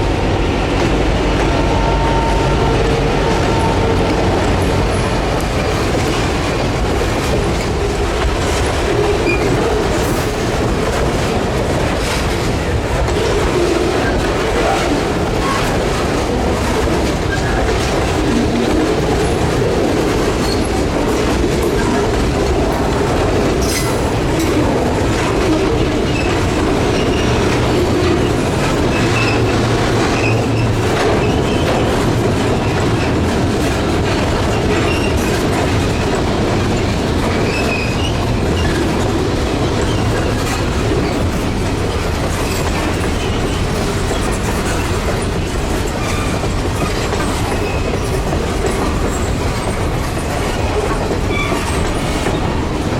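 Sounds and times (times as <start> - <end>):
freight train rumble: 0.0 - 52.9
train wheels clicking over rail joints: 0.0 - 52.9.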